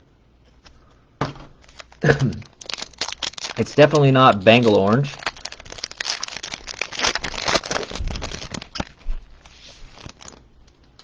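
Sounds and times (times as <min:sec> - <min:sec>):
foil wrapper crinkling and tearing: 0:01.6 - 0:11.0.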